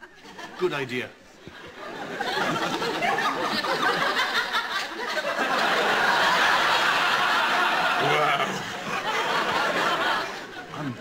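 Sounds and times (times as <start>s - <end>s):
audience laughing: 0.1s - 11.0s.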